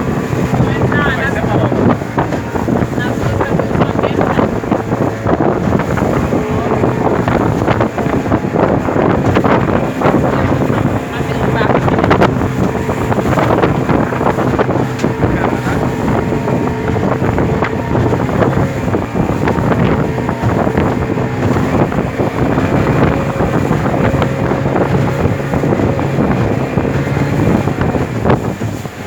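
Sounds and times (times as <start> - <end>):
motorboat engine running: 0.0 - 29.0
wind buffeting microphone: 0.0 - 29.0.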